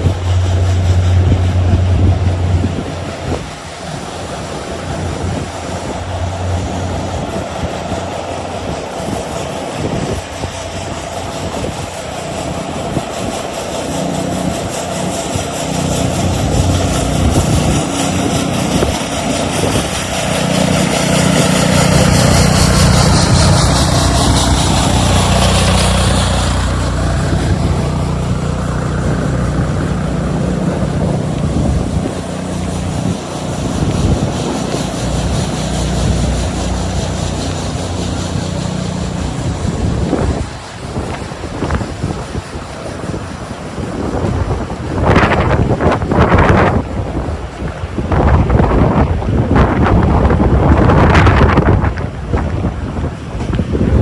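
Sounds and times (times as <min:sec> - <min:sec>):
steady engine noise: 0:00.0 - 0:54.0.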